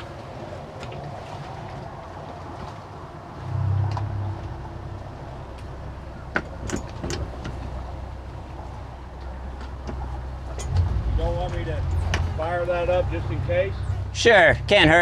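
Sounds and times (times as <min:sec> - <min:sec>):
outboard engine running slowly: 0:00.0 - 0:15.0.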